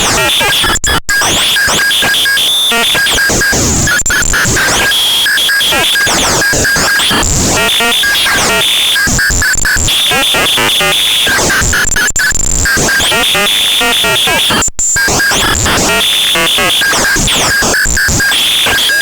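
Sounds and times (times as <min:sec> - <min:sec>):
harsh chaotic electronic noise: 0:00.0 - 0:19.0
stuttering high squealing tones: 0:00.0 - 0:19.0.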